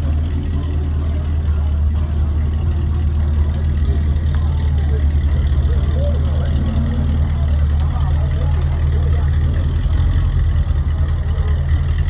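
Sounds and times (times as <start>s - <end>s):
car engine idling deep rumble: 0.0s - 12.0s.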